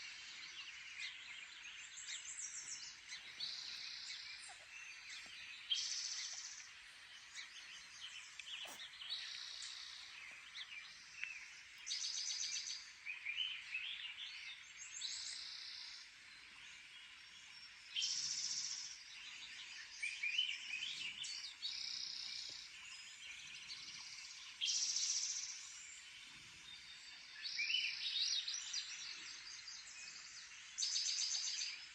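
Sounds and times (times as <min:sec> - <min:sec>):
songbirds singing from speaker: 0:00.0 - 0:31.9.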